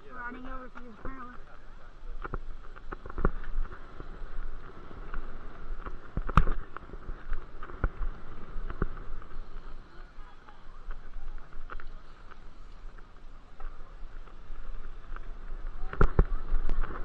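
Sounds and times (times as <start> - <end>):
bicycle tyres rolling: 0.0 - 17.0
wind rumble on microphone: 0.0 - 17.0.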